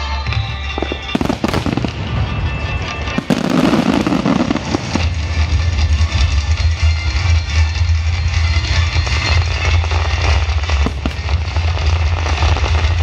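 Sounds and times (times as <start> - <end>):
fireworks bursting: 0.0 - 13.0
music with heavy bass: 0.0 - 13.0.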